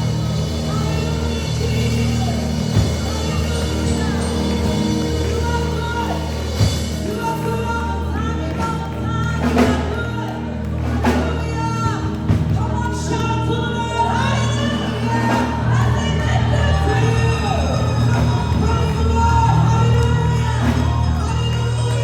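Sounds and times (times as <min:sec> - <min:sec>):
band with steady bass: 0:00.0 - 0:22.0
voices singing: 0:00.0 - 0:22.0.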